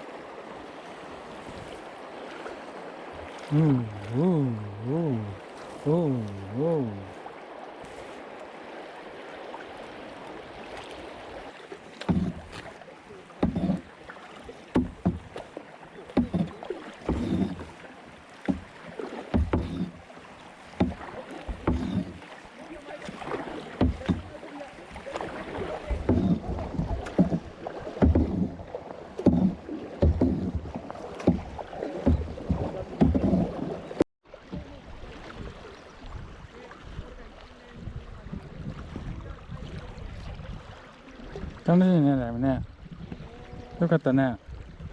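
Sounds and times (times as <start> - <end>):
water washing: 0.0 - 44.3
paddle splashes in water: 0.0 - 44.9.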